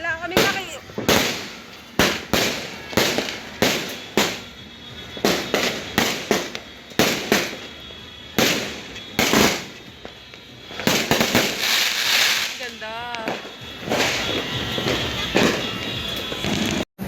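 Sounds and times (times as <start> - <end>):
firecrackers banging with echo: 0.0 - 16.8.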